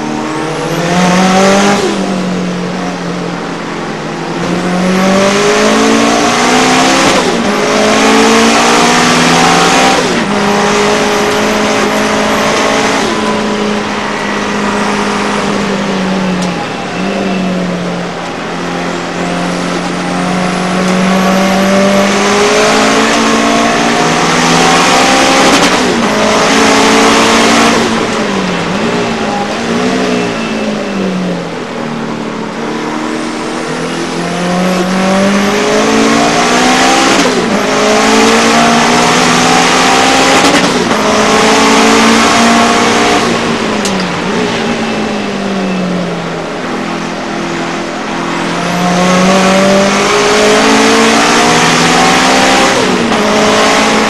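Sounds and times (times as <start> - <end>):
race car engine revving: 0.0 - 54.0
road and wind noise: 0.0 - 54.0.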